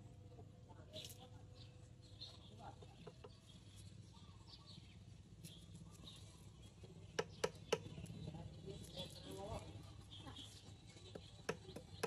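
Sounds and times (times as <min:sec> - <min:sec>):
faint bird chirps: 0:00.7 - 0:12.0.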